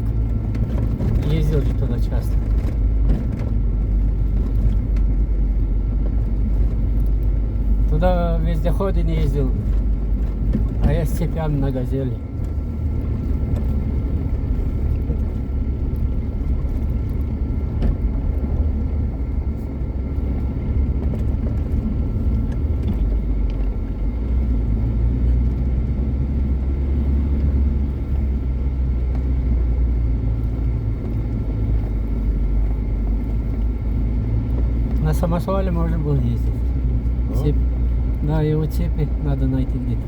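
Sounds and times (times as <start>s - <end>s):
vehicle engine and road noise: 0.0s - 40.0s.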